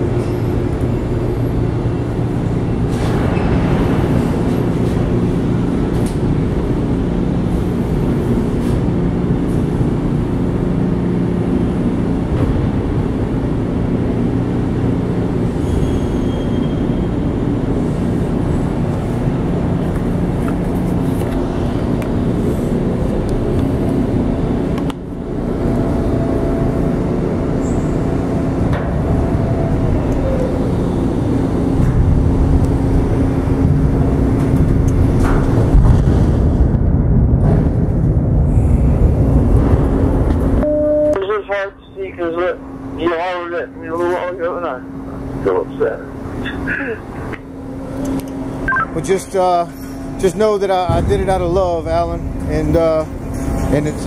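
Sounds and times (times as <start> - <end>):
crane machinery drone: 0.0 - 54.0.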